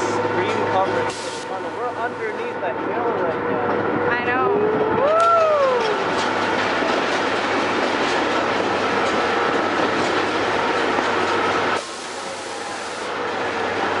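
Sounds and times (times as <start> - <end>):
miniature train rail rumble: 0.0 - 14.0.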